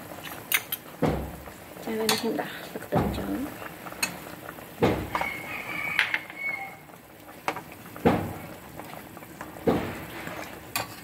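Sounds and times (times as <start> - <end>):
soup bubbling: 0.0 - 11.0.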